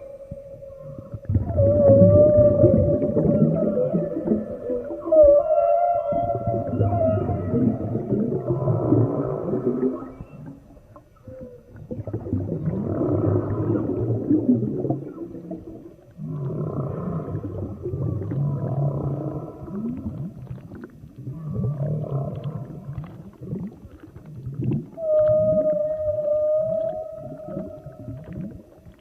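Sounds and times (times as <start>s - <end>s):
whale calls underwater: 0.0s - 29.0s.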